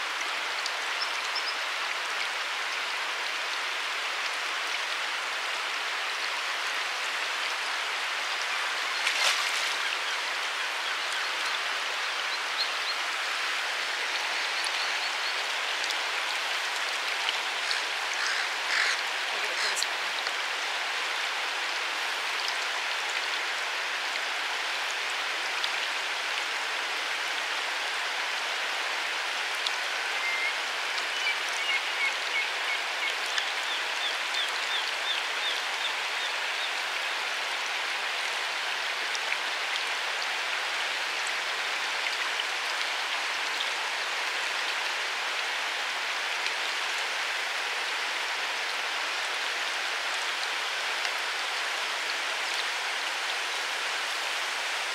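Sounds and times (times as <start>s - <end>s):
rushing water hiss: 0.0s - 54.9s.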